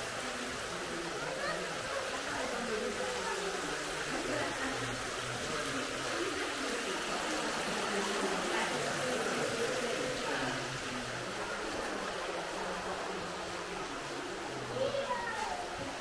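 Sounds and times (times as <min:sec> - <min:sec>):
distant people talking: 0:00.0 - 0:16.0.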